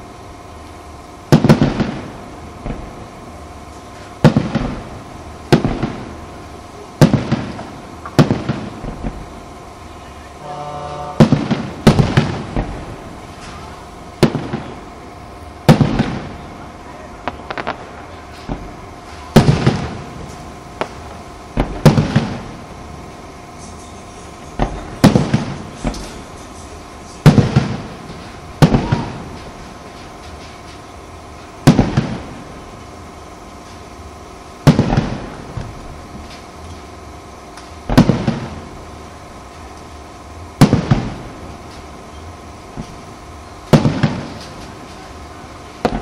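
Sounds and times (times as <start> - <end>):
firework shells bursting: 0.3 - 46.0
small firework cracks: 0.6 - 10.0, 11.1 - 34.0, 34.6 - 42.0, 42.7 - 46.0.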